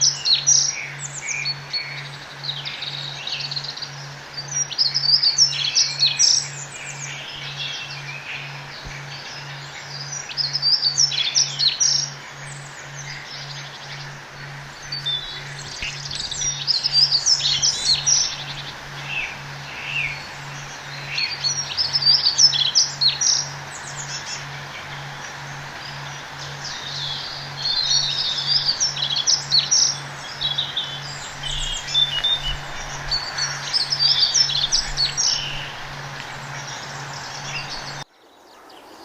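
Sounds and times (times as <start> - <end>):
faint pulsing hum: 0.0 - 38.1
songbirds chirping and singing: 0.0 - 39.0.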